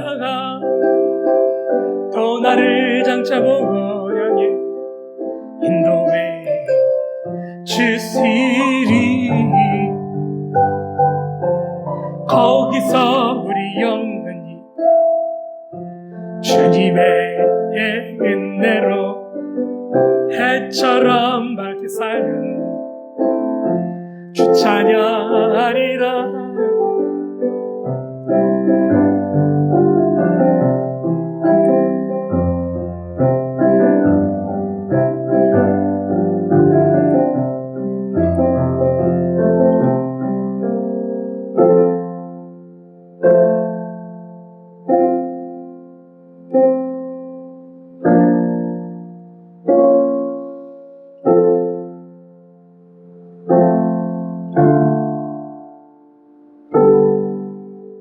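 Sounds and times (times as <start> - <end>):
piano hymn accompaniment: 0.0 - 58.0.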